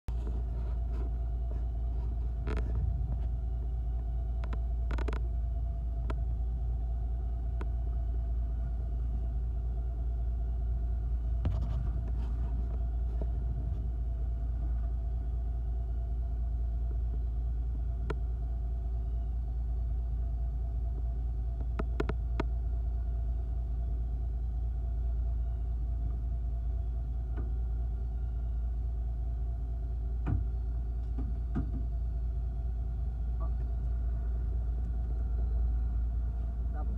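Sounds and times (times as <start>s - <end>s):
boat engine running: 0.1s - 36.9s.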